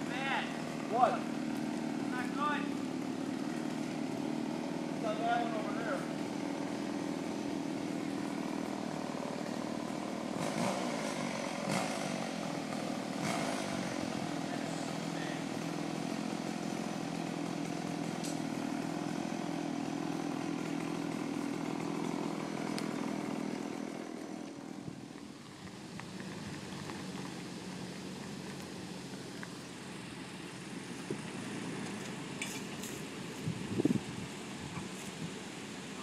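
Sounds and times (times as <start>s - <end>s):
quiet engine hum: 0.0s - 36.0s
small engine running: 0.0s - 36.0s.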